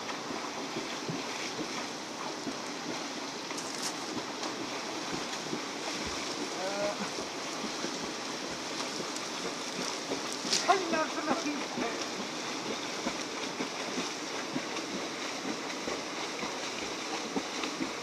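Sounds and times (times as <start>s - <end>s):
swimmer splashing: 0.0s - 18.0s
river rushing: 3.1s - 18.0s.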